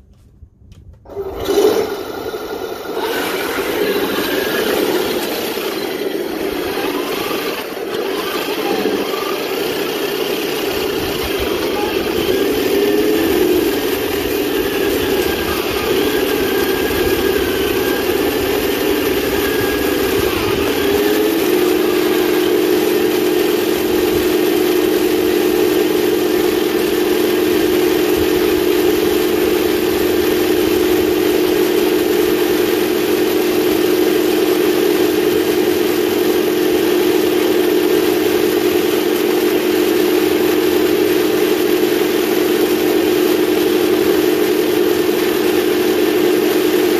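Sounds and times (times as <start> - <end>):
toy tank electronic engine whine: 1.1 - 46.9.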